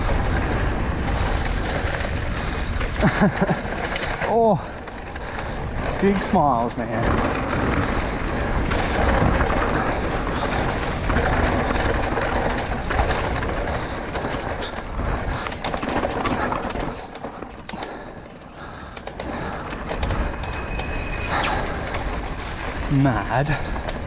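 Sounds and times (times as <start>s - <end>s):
bike clicks and rattles: 0.0s - 24.0s
tyres rushing on dirt: 0.0s - 24.0s.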